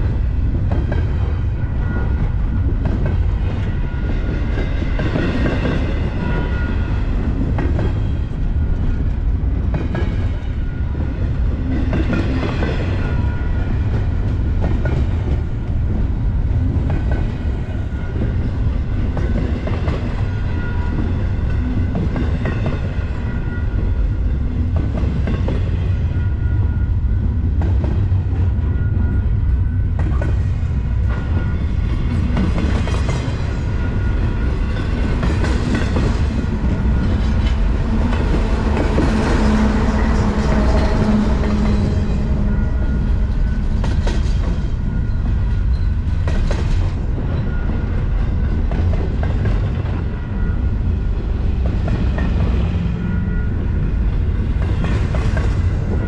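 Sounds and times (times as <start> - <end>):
freight train wheels rumbling: 0.0 - 56.0
rail clacks: 0.0 - 56.0.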